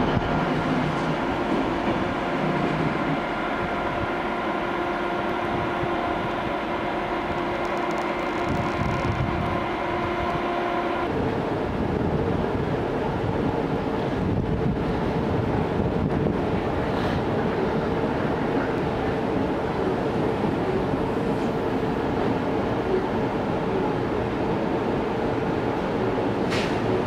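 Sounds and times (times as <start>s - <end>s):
electric train whine: 0.0s - 27.0s
train running noise: 0.0s - 27.0s.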